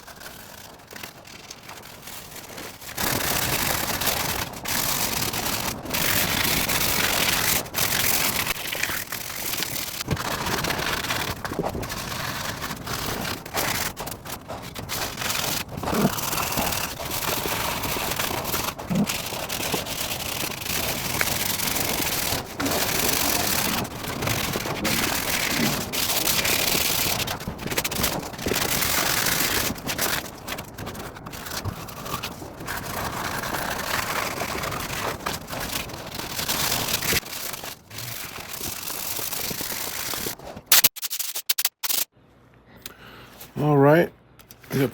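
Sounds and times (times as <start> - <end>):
sandpaper rubbing on wood: 0.0 - 42.1.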